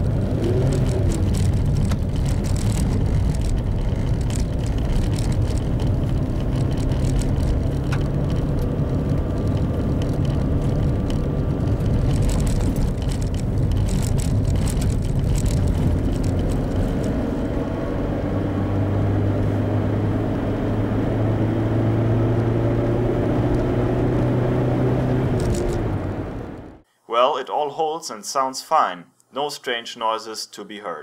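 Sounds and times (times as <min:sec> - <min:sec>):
tyre noise: 0:00.0 - 0:26.6
car engine drone: 0:00.0 - 0:26.8
gravel crackling under tyres: 0:00.0 - 0:26.8.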